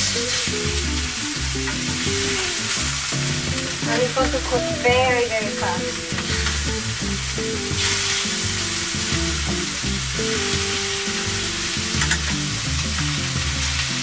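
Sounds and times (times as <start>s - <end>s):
background music: 0.0s - 14.0s
fish sizzling in a pan: 0.0s - 14.0s.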